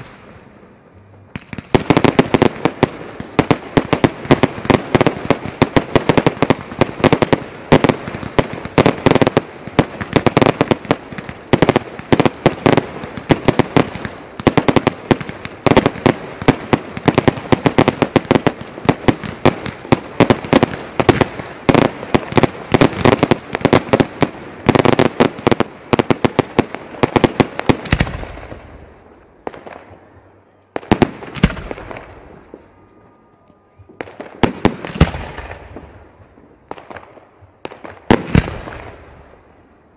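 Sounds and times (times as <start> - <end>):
fireworks and firecrackers bangs: 0.0 - 39.7.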